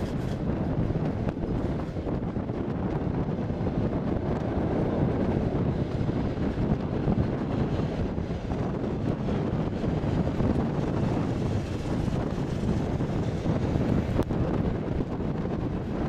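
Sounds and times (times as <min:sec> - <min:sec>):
train rumbling on rails: 0:00.0 - 0:16.0
wind buffeting microphone: 0:00.0 - 0:16.0.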